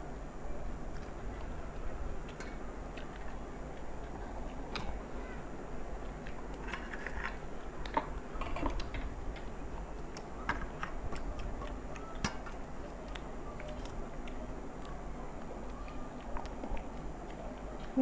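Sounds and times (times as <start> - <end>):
crisp crunches of eating: 0.8 - 18.0.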